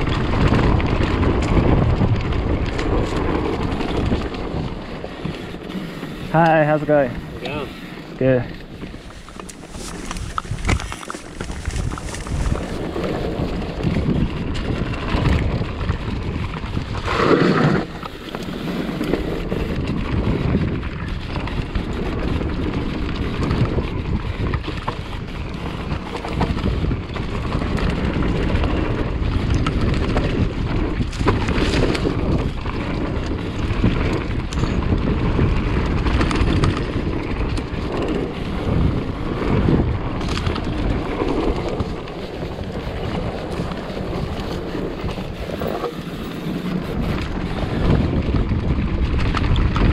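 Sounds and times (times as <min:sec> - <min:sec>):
mountain bike rattling on trail: 0:00.0 - 0:49.9
wind rushing over microphone: 0:00.0 - 0:49.9.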